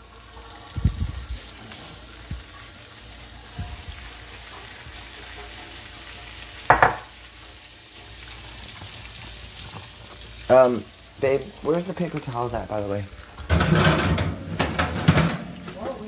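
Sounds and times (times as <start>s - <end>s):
meat sizzling in a skillet: 0.0s - 16.0s.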